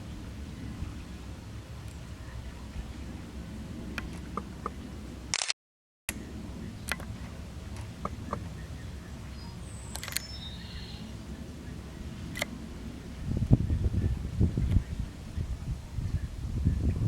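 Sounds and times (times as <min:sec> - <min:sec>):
wind rumble on microphone: 0:00.0 - 0:05.3, 0:06.1 - 0:17.0.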